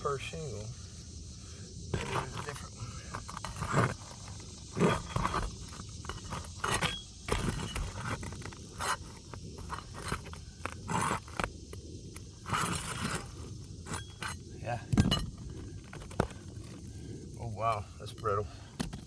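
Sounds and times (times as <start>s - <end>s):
hatchet scraping roof shingles: 1.9s - 19.0s.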